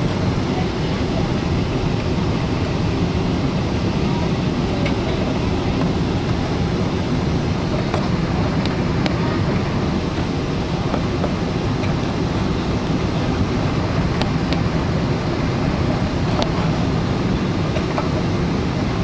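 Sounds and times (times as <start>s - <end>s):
airliner landing rumble: 0.0s - 19.0s.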